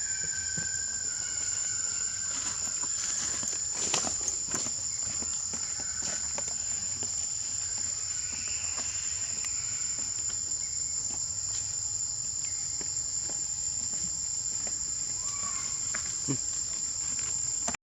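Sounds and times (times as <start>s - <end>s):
high-pitched insect chorus: 0.0s - 17.8s.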